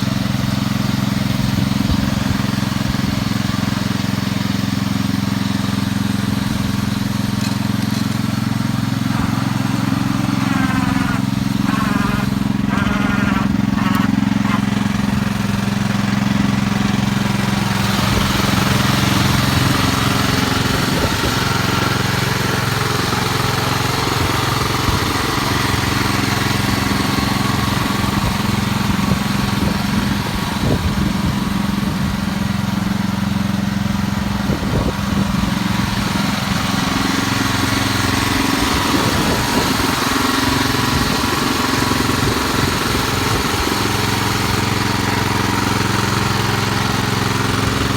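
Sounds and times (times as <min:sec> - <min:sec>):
garden tractor engine under load: 0:00.0 - 0:47.9.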